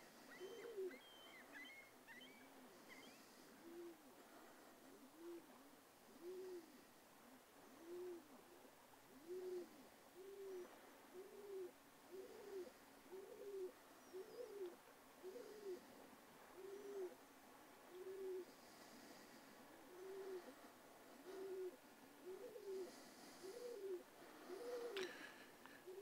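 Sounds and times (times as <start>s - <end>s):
bird cooing: 0.0s - 4.0s, 4.9s - 5.5s, 6.1s - 6.8s, 7.7s - 15.9s, 16.6s - 17.2s, 17.9s - 19.2s, 19.9s - 20.6s, 21.2s - 26.0s.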